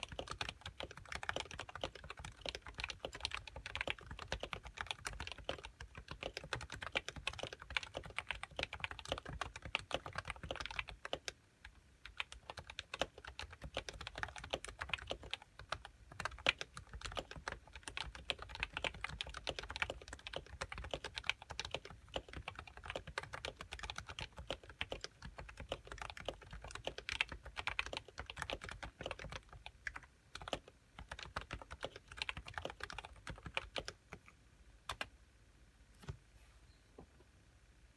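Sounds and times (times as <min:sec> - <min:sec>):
fast keyboard typing: 0:00.0 - 0:34.3, 0:34.9 - 0:35.1.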